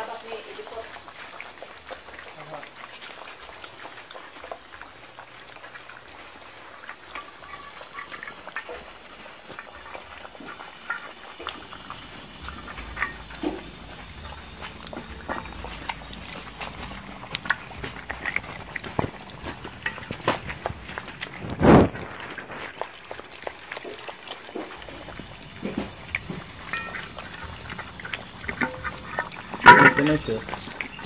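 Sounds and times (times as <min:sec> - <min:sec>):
puppies lapping and chewing: 0:00.0 - 0:31.0.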